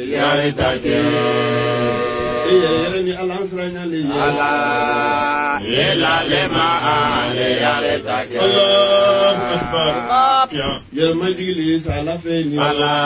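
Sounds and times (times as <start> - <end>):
man chanting into microphone: 0.0 - 7.4, 8.3 - 13.0.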